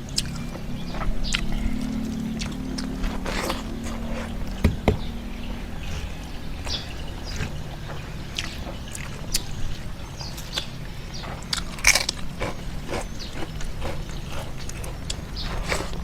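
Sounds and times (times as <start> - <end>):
wet chewing and lip-smacking: 0.0 - 5.2, 8.3 - 16.0.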